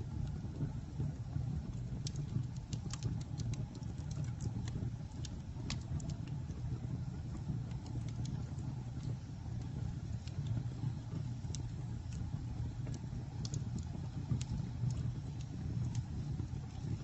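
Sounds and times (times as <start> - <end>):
low rumble of flame: 0.0 - 17.0
wood crackling and popping: 0.0 - 17.0.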